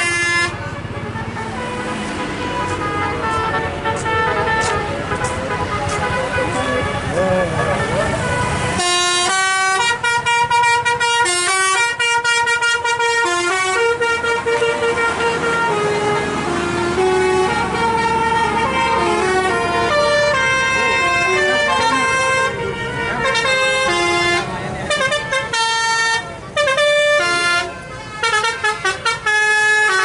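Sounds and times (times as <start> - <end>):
musical bus horn playing a tune: 0.0 - 30.0.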